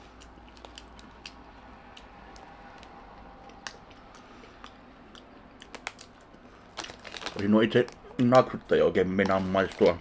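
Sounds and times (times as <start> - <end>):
chewing crunchy fries: 0.0 - 10.0.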